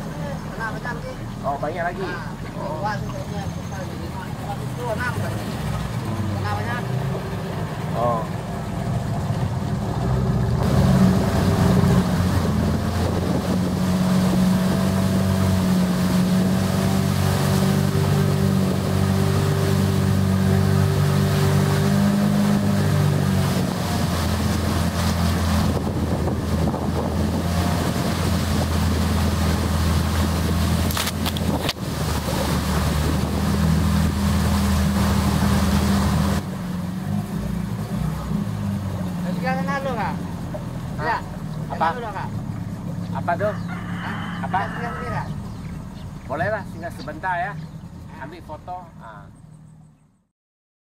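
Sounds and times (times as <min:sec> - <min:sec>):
outboard motor running: 0:00.0 - 0:50.2.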